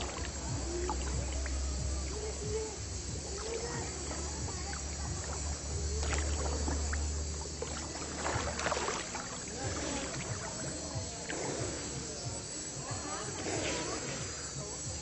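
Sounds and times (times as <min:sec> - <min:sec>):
steady low rumble: 0:00.0 - 0:13.4
water splashing and lapping: 0:00.0 - 0:14.8
faint distant voices: 0:00.0 - 0:15.0.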